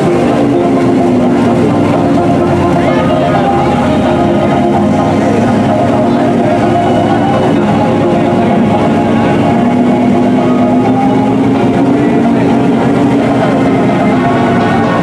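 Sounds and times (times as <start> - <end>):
buggy engine droning under load: 0.0 - 15.0.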